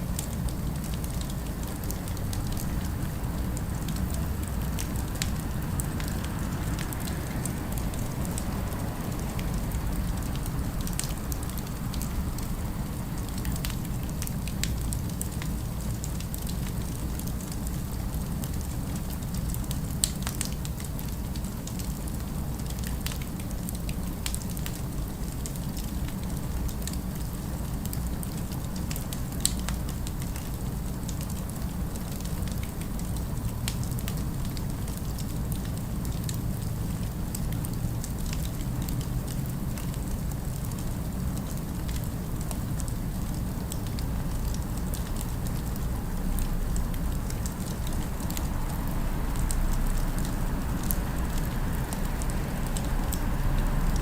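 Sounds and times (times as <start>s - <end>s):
fireplace fire crackling: 0.0s - 54.0s.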